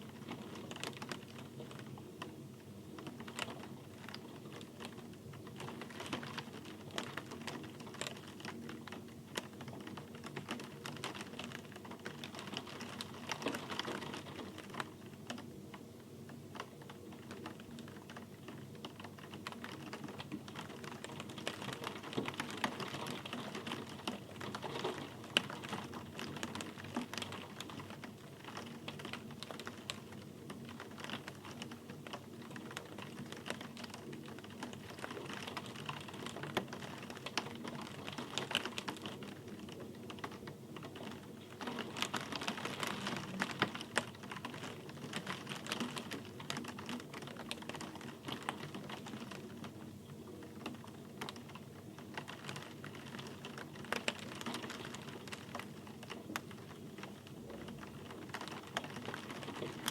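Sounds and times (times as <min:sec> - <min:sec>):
raindrops ticking on hard surface: 0:00.0 - 0:59.9.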